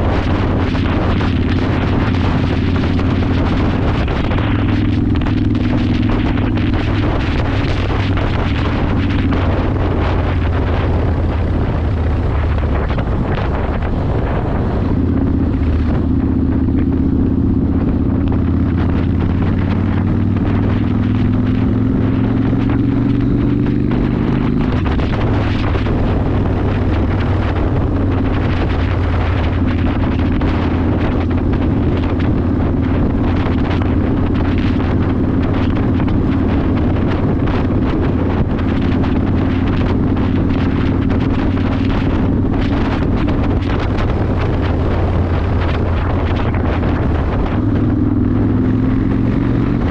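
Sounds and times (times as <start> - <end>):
motorcycle engine running: 0.0 - 49.9
wind noise on microphone: 0.0 - 49.9.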